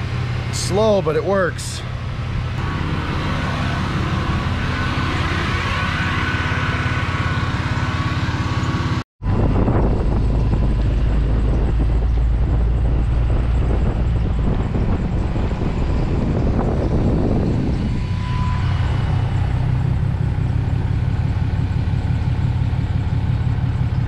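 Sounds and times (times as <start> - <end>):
fuel pump whining: 0.0 - 24.0
vehicle engine and road noise: 0.0 - 24.0.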